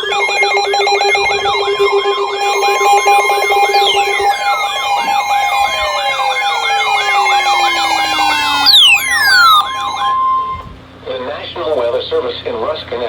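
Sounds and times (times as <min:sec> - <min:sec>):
falling pitch sweeps: 0:00.0 - 0:10.8
warbling siren-like tone: 0:00.0 - 0:10.8
steady alarm tones: 0:00.0 - 0:11.0.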